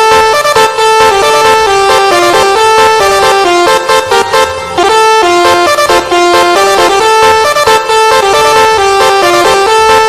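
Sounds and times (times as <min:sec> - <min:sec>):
bus multi-tone air horn melody: 0:00.0 - 0:10.0.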